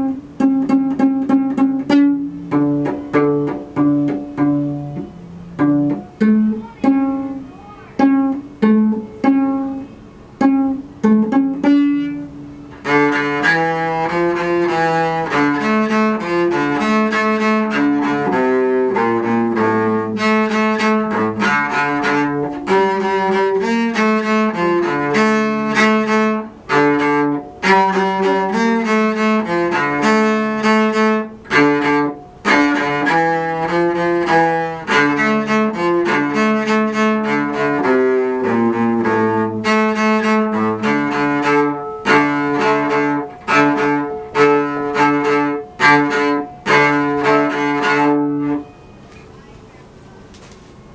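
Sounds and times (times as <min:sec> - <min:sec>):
bowed cello melody: 0:00.0 - 0:49.8
cello pizzicato notes: 0:00.0 - 0:50.0.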